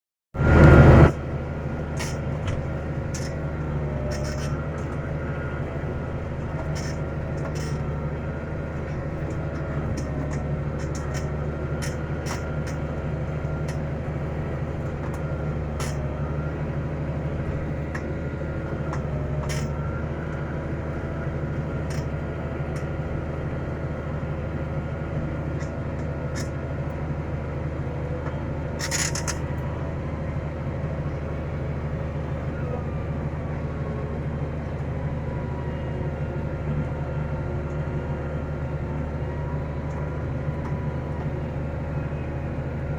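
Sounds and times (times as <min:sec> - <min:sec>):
tractor engine running: 0:00.4 - 0:42.9.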